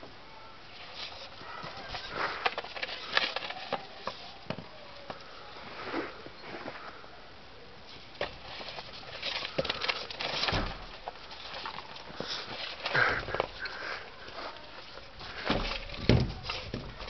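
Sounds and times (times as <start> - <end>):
knocks and scuffling: 0.0 - 7.0, 7.8 - 17.0.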